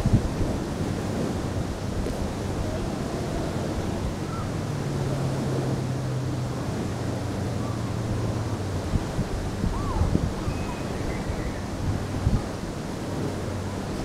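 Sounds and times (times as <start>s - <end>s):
waves washing onto beach: 0.0s - 14.0s
wind buffeting microphone: 0.0s - 14.0s.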